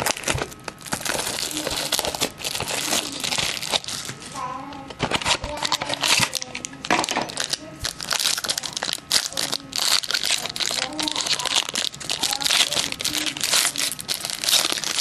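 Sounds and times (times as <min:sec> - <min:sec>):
wrapper crinkling and tearing: 0:00.0 - 0:15.0.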